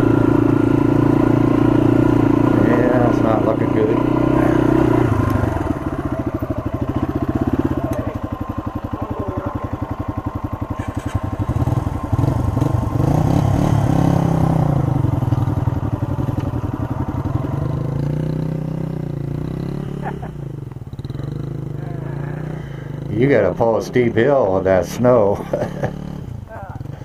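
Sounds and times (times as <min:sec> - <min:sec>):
dirt bike engines running: 0:00.0 - 0:27.0.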